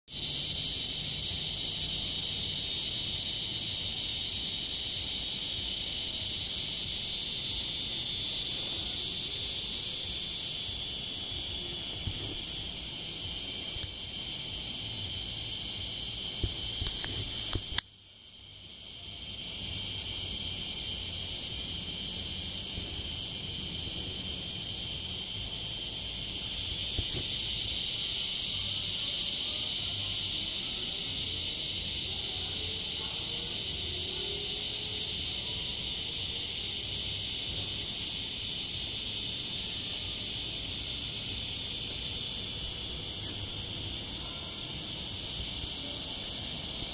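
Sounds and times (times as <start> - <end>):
cicada buzzing: 0.0 - 46.9.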